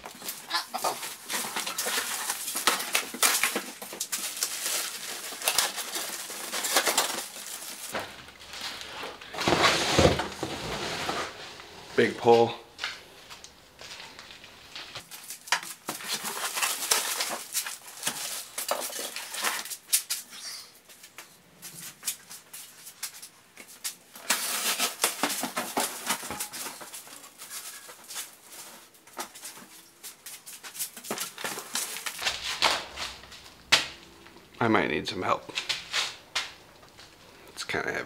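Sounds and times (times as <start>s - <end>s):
plastic and cardboard packaging rustling: 0.0s - 34.6s.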